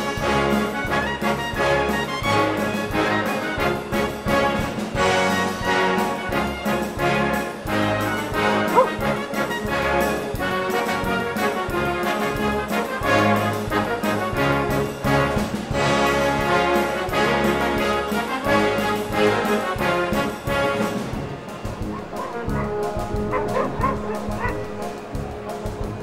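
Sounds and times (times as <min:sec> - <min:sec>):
orchestral music with brass: 0:00.0 - 0:26.0.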